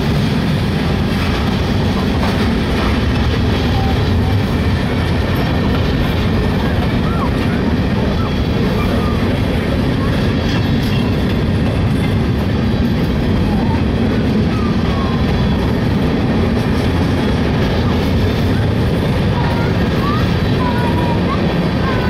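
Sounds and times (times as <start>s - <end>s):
steel train wheels on rails: 0.0s - 22.0s.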